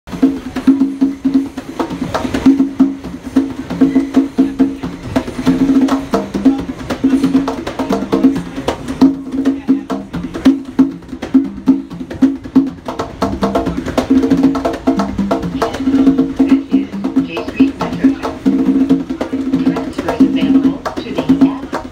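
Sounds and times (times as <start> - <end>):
hand drums playing fast rhythm: 0.1 - 21.9
ringing drum tone: 0.1 - 21.9.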